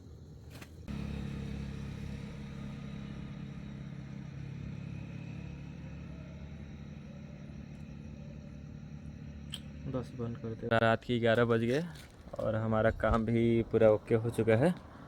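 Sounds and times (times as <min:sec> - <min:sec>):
engine idling: 0:00.9 - 0:15.0.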